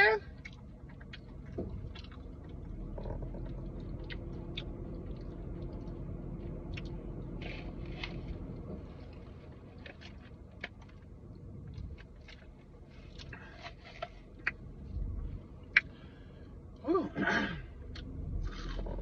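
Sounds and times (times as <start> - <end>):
low steady hum: 0.0 - 19.0
close chewing with crunchy clicks: 0.2 - 14.8, 15.6 - 16.0, 17.8 - 19.0.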